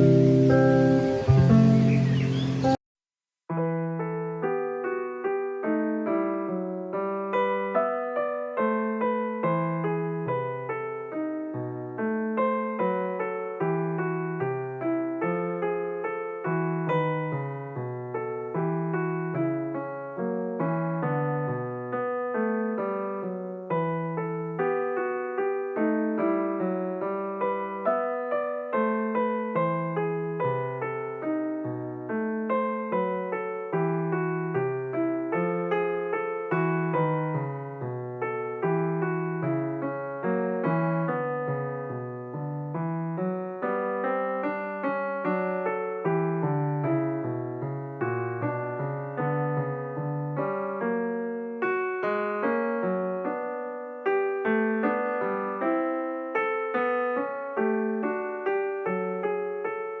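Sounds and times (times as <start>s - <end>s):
calm piano music: 0.0s - 2.8s, 3.5s - 60.0s.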